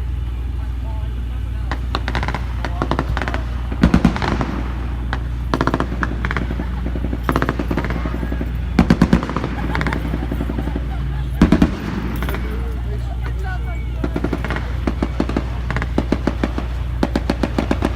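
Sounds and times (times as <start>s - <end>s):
steady low hum: 0.0s - 17.9s
machine-gun fire bursts: 1.8s - 13.0s, 14.0s - 17.9s.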